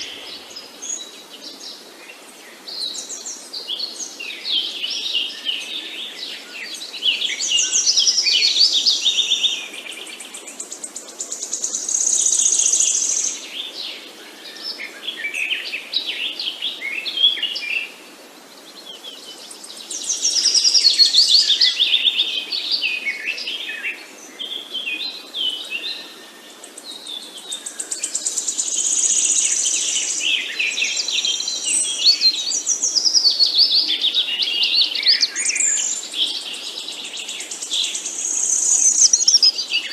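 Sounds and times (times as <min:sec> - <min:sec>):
birds chirping and trilling: 0:00.0 - 0:18.0, 0:18.6 - 0:39.9.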